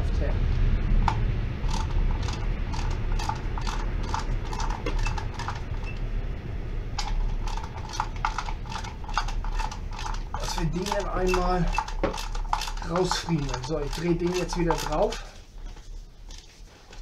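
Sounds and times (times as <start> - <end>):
hand tools clicking on metal: 1.7 - 6.1, 7.0 - 17.0.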